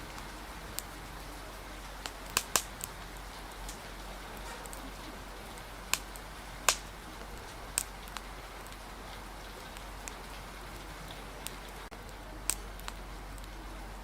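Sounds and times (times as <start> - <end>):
hiss of rain: 0.0 - 14.0
wood fire crackling: 0.0 - 14.0.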